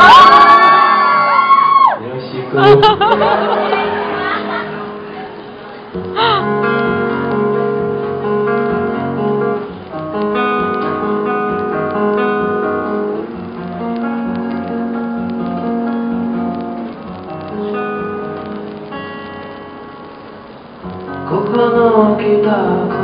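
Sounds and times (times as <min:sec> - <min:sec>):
acoustic guitar chords: 0:02.6 - 0:23.0.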